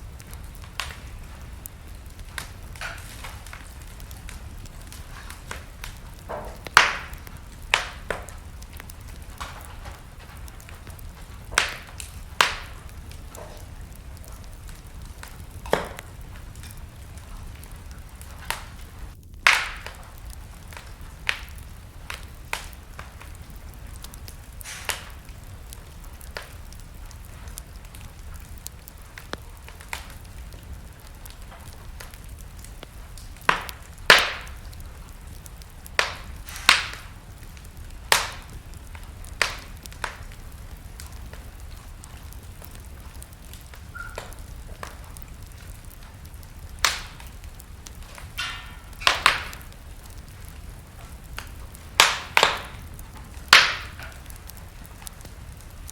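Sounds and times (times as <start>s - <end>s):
low hiss of fire: 0.0s - 55.9s
wood fire crackling and popping: 0.0s - 55.9s.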